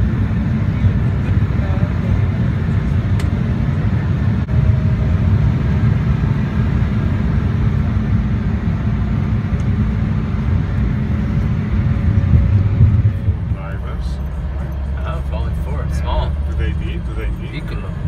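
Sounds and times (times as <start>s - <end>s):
airliner engines and airflow rumble: 0.0s - 18.0s.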